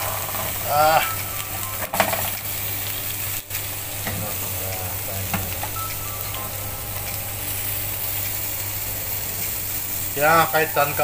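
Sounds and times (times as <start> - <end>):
fish sizzling on hot metal: 0.0 - 11.0
low even hum: 0.0 - 11.0.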